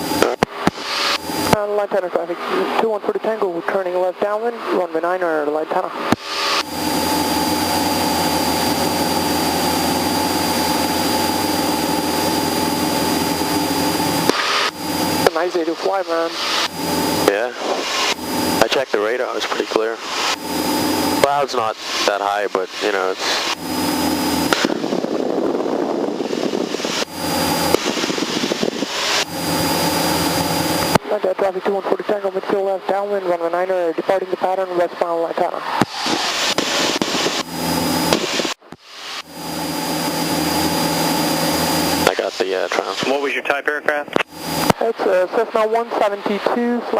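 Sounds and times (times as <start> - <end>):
aircraft engine and propeller droning: 0.0 - 46.9
faint high whine: 5.8 - 34.8, 35.6 - 46.9.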